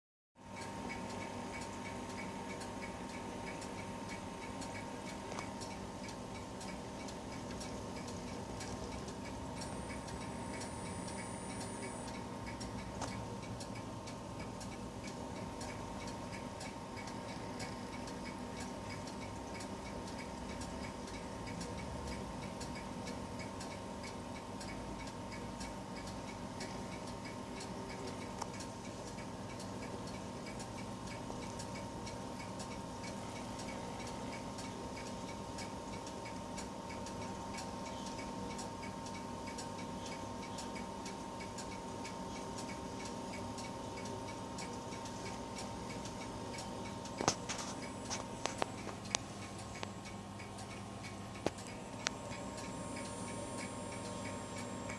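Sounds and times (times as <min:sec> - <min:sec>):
stepper motor ticking: 0:00.4 - 0:54.9.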